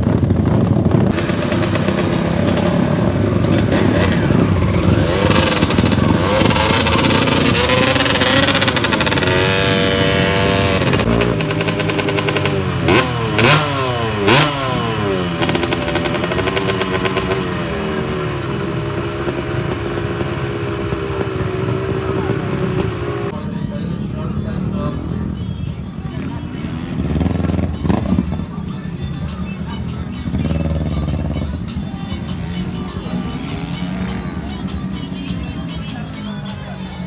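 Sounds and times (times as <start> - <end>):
motorcycle engines at full throttle: 0.0 - 23.4, 24.0 - 37.0.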